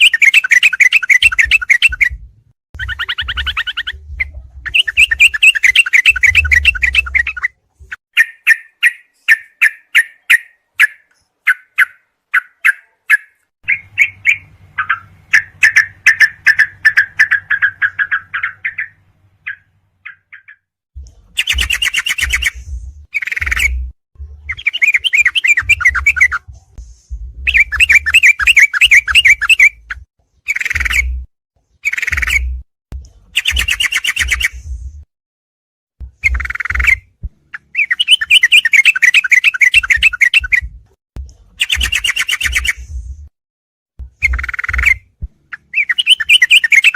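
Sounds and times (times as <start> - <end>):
bulbul chirps and chattering song: 0.0 - 2.2, 2.8 - 20.7, 21.3 - 26.4, 27.5 - 32.6, 33.3 - 34.7, 36.1 - 40.7, 41.6 - 42.9, 44.1 - 46.9.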